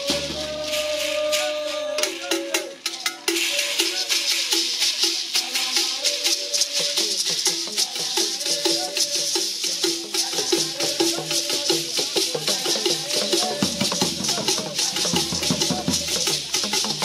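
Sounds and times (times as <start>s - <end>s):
gourd shakers rattling: 0.0s - 17.0s
group singing: 0.0s - 17.0s.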